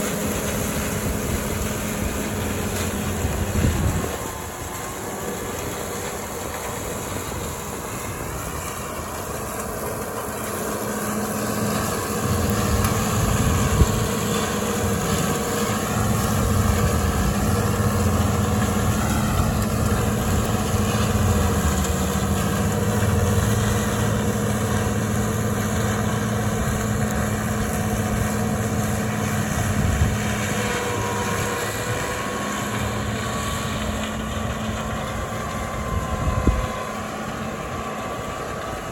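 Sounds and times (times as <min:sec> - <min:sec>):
farm machinery engine running: 0:00.0 - 0:38.9.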